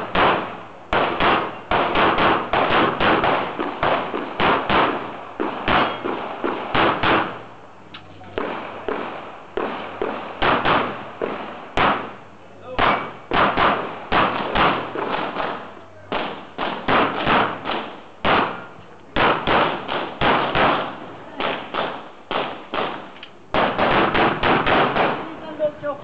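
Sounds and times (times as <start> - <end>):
pistol gunshots: 0.0 - 7.5, 8.3 - 25.6.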